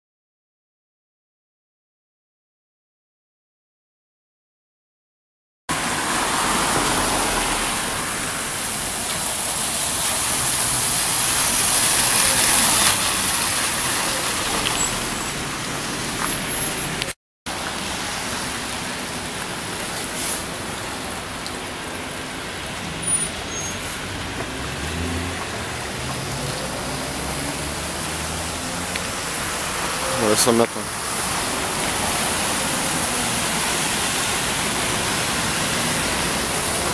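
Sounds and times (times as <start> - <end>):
tyres hissing on wet asphalt: 5.7 - 36.9.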